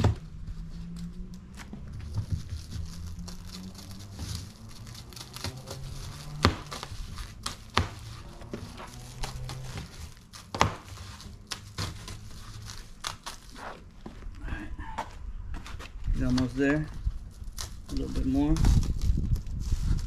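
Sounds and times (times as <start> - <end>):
plastic wrap crinkling and tearing: 0.8 - 14.0, 16.2 - 20.0.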